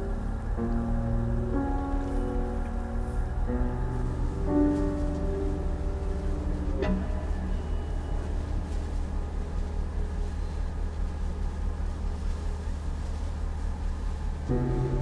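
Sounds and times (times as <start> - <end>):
ship diesel engine droning: 0.0 - 15.0.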